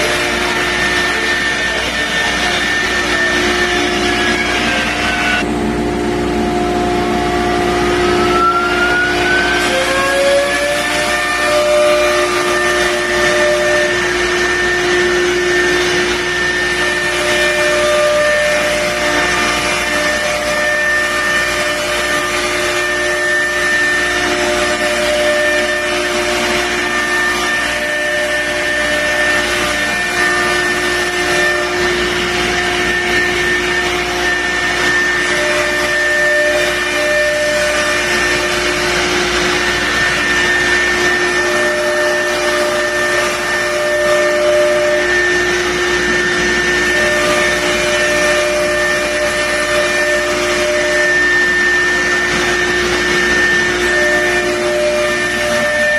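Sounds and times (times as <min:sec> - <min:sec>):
spindle whining: 0:00.0 - 0:05.6, 0:06.4 - 0:55.9
cnc router running: 0:00.0 - 0:55.9.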